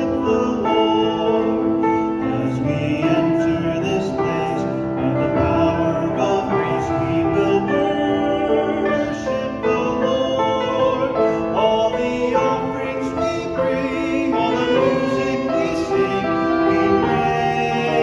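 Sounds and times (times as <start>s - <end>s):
instrumental accompaniment: 0.0s - 18.0s
voices singing in harmony: 0.0s - 18.0s.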